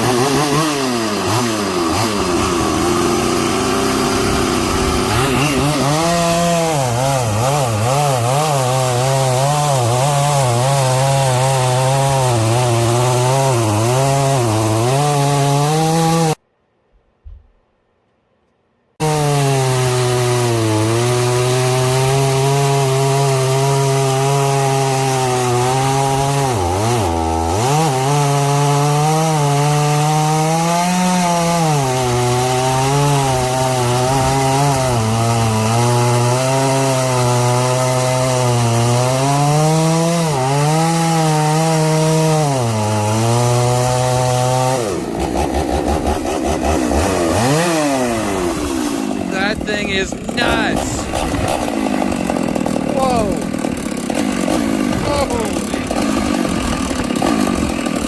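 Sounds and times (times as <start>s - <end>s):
chainsaw cutting wood: 0.0s - 16.4s, 19.0s - 58.0s.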